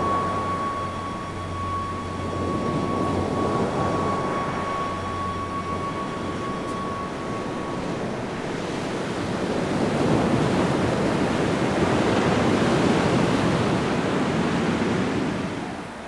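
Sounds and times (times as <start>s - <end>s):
even rushing noise: 0.0s - 14.4s.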